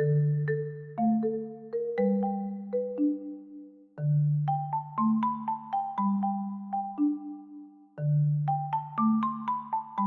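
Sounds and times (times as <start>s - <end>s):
bouncy mallet tune: 0.0s - 10.0s.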